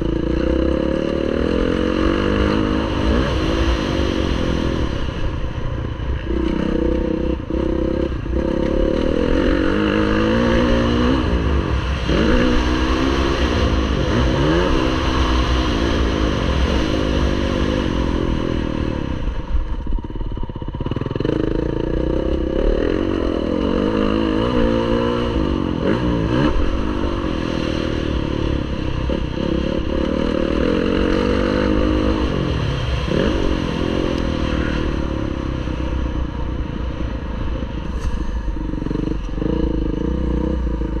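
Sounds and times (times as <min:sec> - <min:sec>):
motocross bike engine revving: 0:00.0 - 0:41.0.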